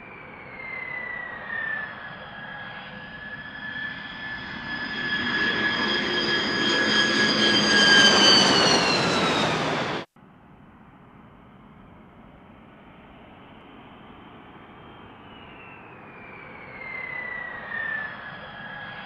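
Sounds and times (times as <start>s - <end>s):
jet engines whining: 0.0s - 10.1s, 13.0s - 19.0s.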